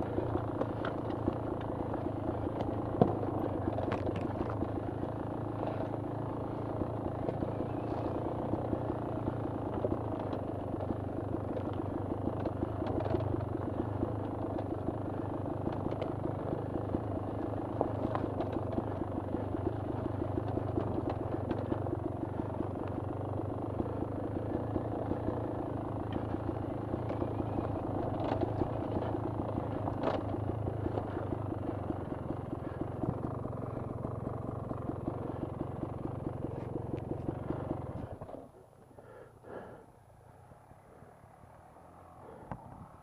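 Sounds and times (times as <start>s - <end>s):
dirt bike engine running: 0.0s - 39.8s.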